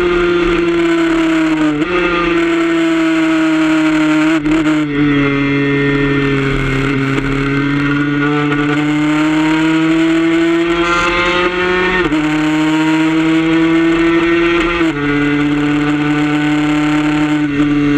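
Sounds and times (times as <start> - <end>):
two-stroke engine revving: 0.0 - 17.9.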